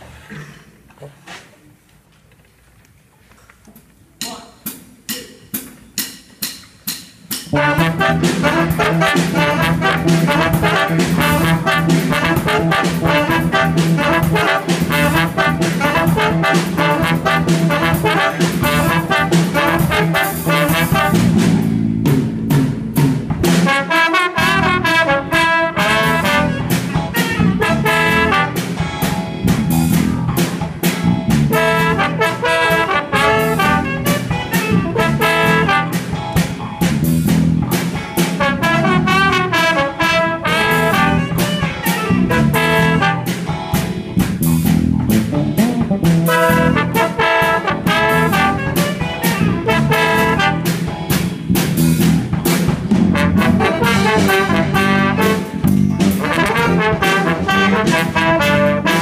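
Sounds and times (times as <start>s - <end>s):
jazz band playing: 4.6s - 59.0s.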